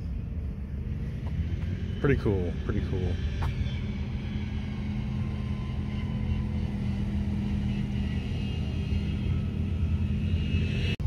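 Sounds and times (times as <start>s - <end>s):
constant low hum: 0.0s - 11.0s
motor vehicle rumble: 0.0s - 11.0s.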